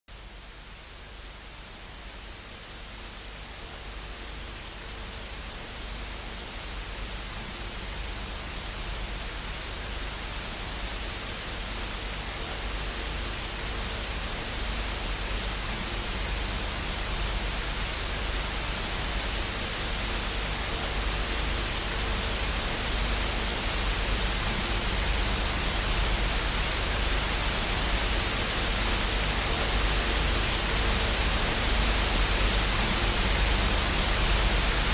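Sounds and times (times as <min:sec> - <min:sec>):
television static hiss: 0:00.1 - 0:34.9.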